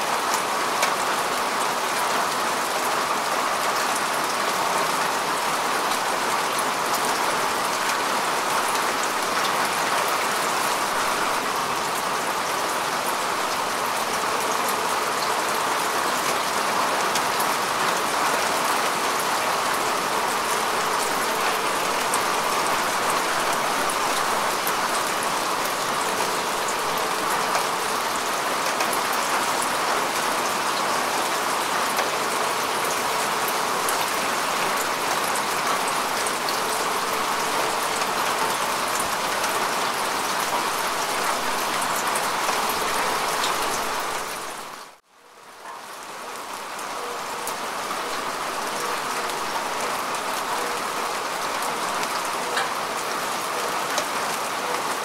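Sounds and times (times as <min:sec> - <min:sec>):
rain falling on grass: 0:00.0 - 0:55.0.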